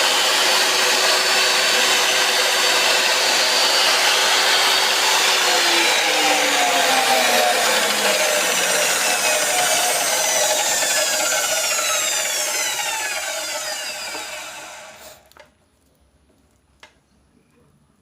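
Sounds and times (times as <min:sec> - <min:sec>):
cut-off machine winding down: 0:00.0 - 0:15.3.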